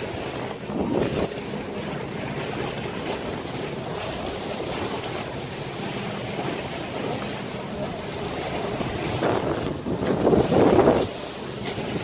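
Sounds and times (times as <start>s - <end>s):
sea water rushing along hulls: 0.0s - 12.0s
wind buffeting microphone: 0.0s - 12.0s.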